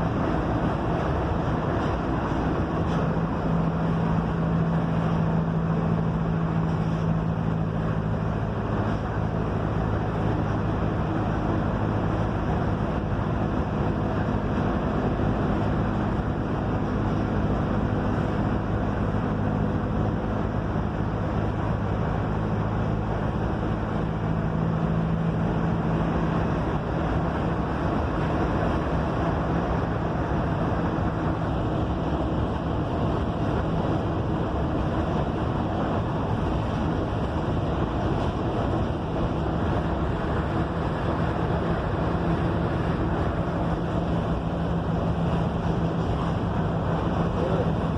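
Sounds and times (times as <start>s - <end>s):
bus diesel engine humming: 0.0s - 47.9s
road and wind noise: 0.0s - 47.9s.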